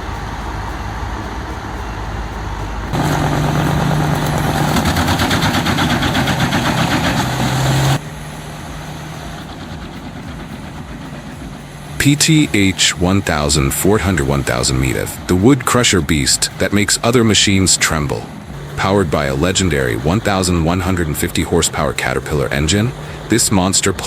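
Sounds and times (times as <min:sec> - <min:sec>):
wood chipper engine hum: 0:00.0 - 0:23.7.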